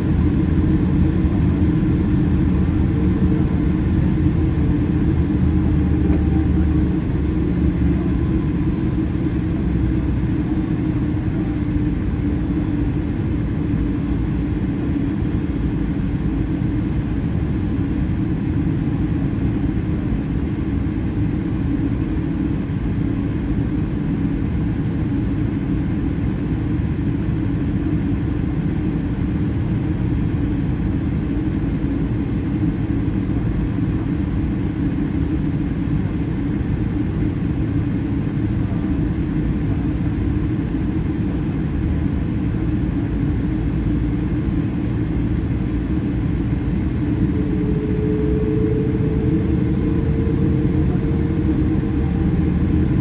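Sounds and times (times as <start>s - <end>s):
airplane cabin low rumble: 0.0s - 53.0s.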